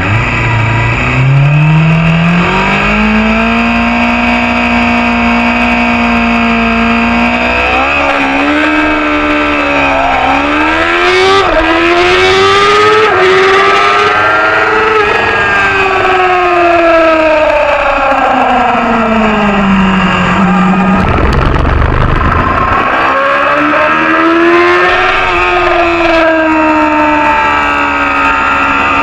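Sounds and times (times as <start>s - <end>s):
racing motorcycle engine accelerating: 0.0s - 29.0s.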